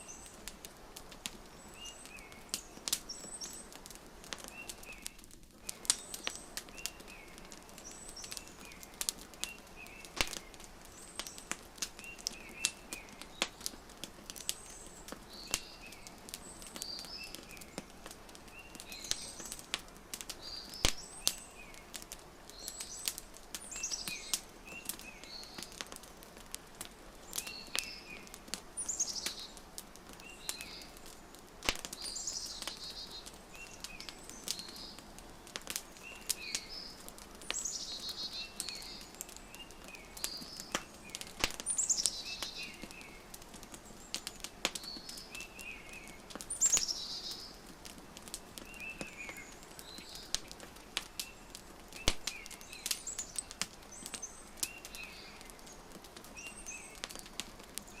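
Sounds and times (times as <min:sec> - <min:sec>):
small birds chirping: 0:00.0 - 0:58.0
wood fire crackling: 0:00.0 - 0:58.0.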